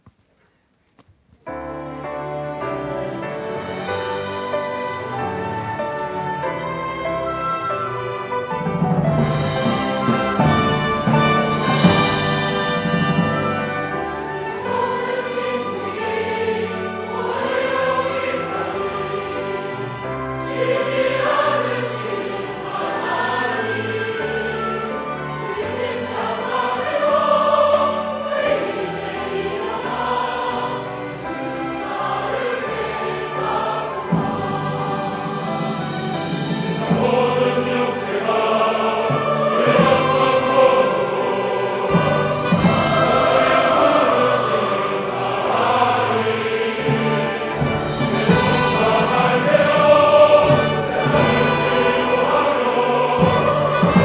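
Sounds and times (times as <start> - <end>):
choir singing: 1.6 - 54.0
instrumental accompaniment: 1.6 - 54.0.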